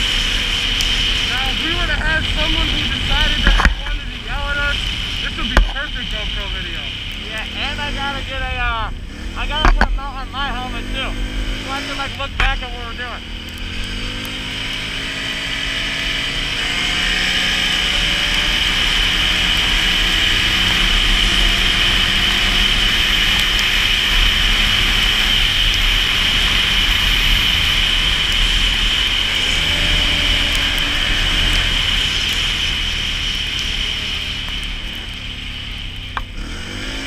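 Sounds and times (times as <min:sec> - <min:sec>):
atv engine accelerating: 0:00.0 - 0:37.0.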